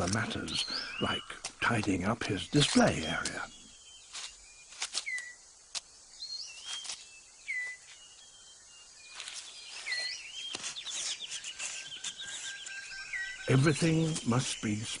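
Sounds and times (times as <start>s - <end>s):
bird chirps: 0.0s - 15.0s
birds whistling: 0.0s - 15.0s.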